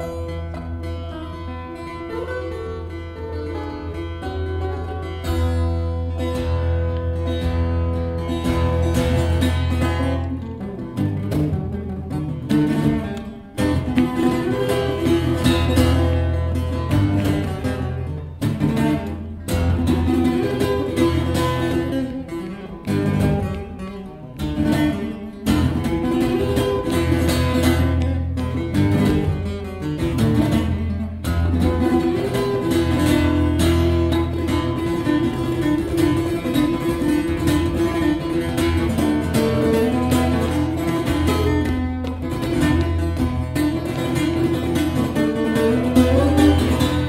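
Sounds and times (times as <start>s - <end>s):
fingerstyle acoustic guitar: 0.0s - 47.0s.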